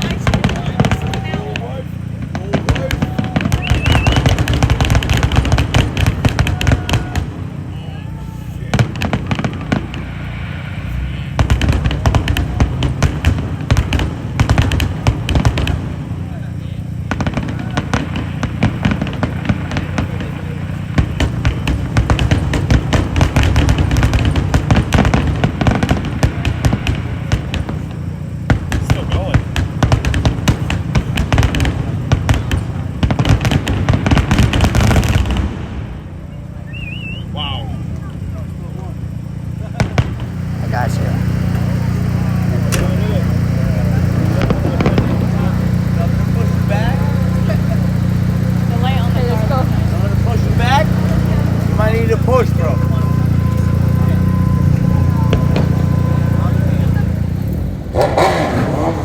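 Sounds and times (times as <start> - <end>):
fireworks crackling: 0.0 - 59.0
low rumble: 0.0 - 59.0.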